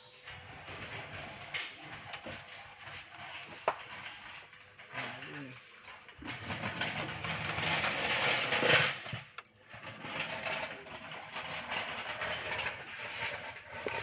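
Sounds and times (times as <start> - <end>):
tools rattling and scraping in engine: 0.1 - 14.0.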